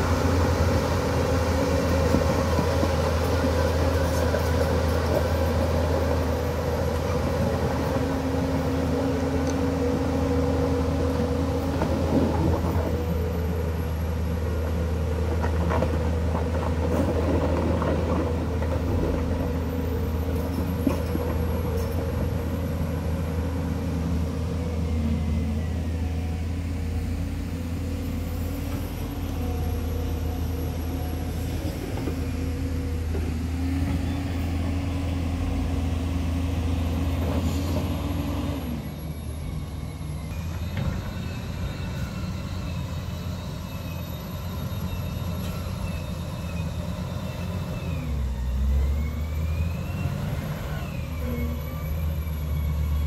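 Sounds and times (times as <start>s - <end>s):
excavator diesel engine humming: 0.0s - 53.0s
wheel loader pushing dirt: 0.0s - 53.0s.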